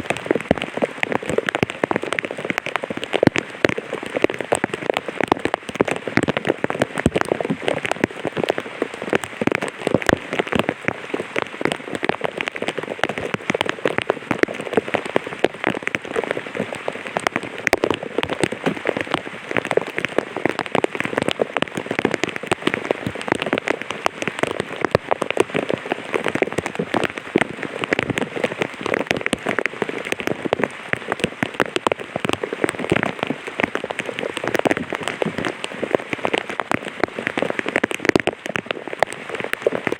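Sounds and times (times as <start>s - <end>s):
rain tapping on an umbrella: 0.0s - 39.9s.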